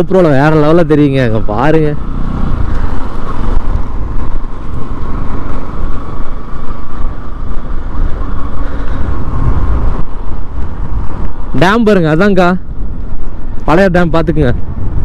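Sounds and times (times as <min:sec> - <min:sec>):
motorcycle engine running: 0:00.0 - 0:14.0
wind rumble on microphone: 0:00.0 - 0:15.0.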